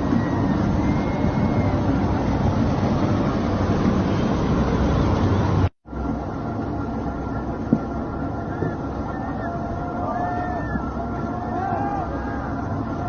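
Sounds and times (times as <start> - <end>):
boat engine running: 0.0 - 13.0
sea noise: 0.0 - 13.0
wind: 0.0 - 13.0.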